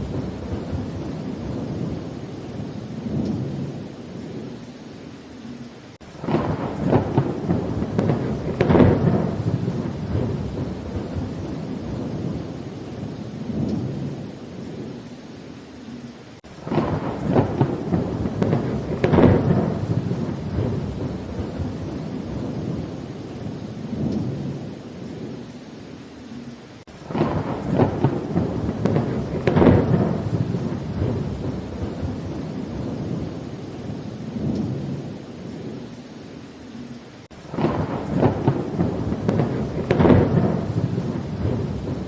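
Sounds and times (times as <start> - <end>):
thunder rumbling: 0.0 - 4.8, 5.4 - 42.0
steady rain: 0.0 - 42.0.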